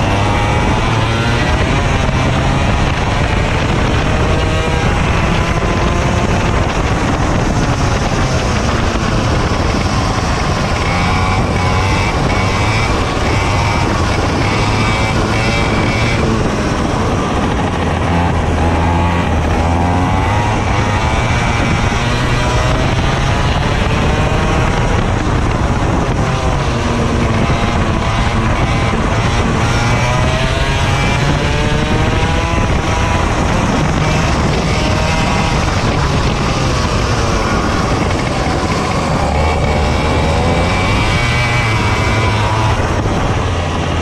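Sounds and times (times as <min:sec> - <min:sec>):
racing kart engine: 0:00.0 - 0:44.0.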